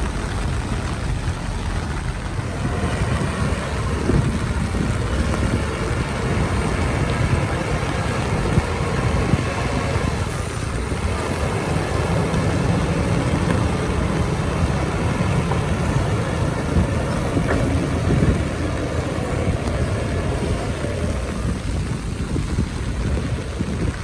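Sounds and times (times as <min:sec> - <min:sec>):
heavy diesel machinery rumbling: 0:00.0 - 0:24.0.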